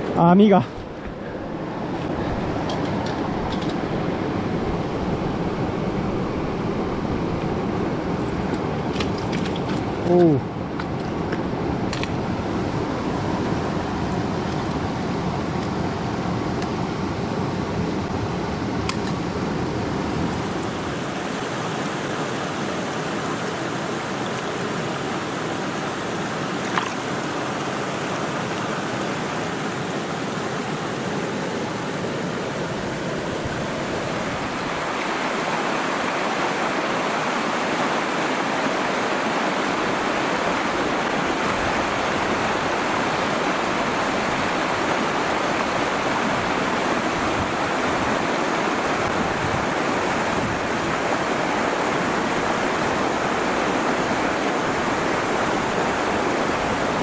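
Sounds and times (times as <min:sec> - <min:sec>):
rushing mountain stream: 0:00.0 - 0:57.0.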